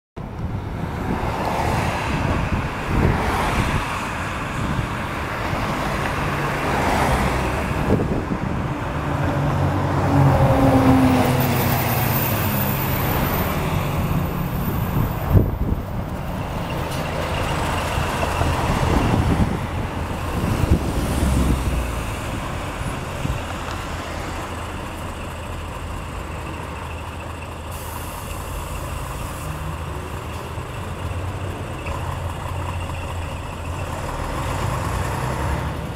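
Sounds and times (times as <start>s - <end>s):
streetcar low rumble: 0.2s - 35.9s.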